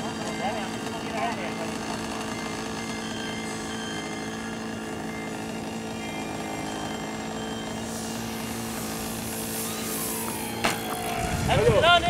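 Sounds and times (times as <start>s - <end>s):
model aircraft engine droning: 0.0s - 12.0s.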